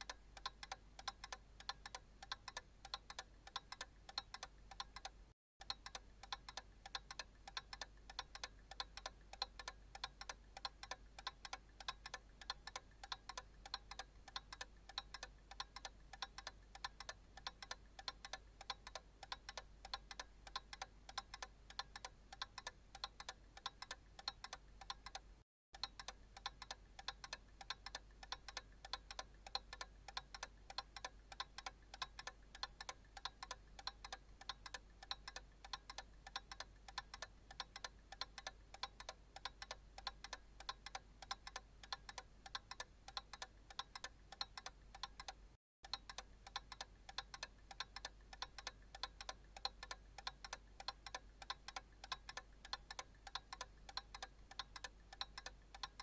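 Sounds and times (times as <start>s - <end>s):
analog clock ticking: 0.0s - 56.0s.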